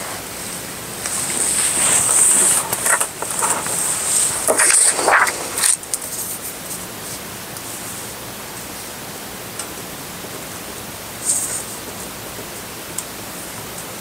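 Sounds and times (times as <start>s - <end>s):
recording noise hiss: 0.0s - 14.0s.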